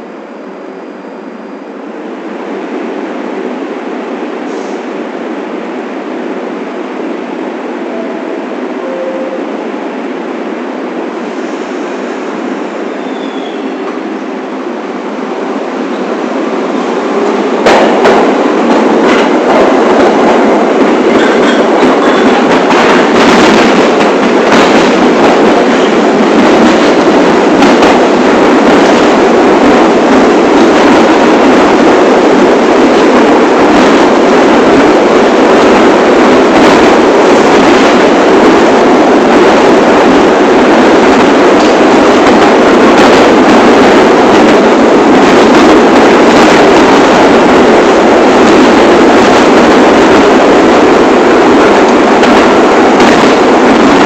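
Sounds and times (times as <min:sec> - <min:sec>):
subway train rumbling: 0:00.0 - 0:54.0.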